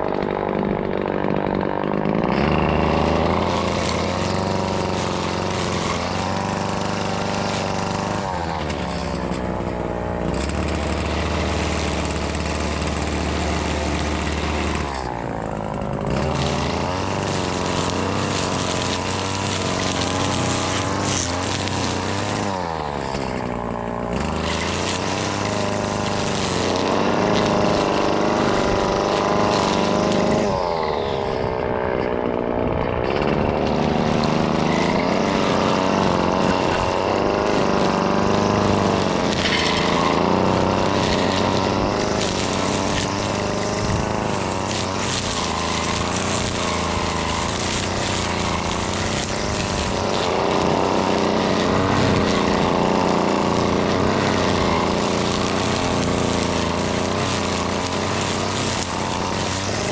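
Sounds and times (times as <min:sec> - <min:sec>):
string trimmer cutting: 0:00.0 - 0:59.9.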